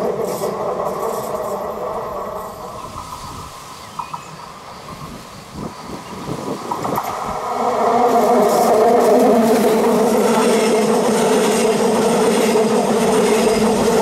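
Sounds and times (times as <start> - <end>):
electric train traction hum: 0.0 - 14.0
wheels rumbling on rail: 0.0 - 14.0.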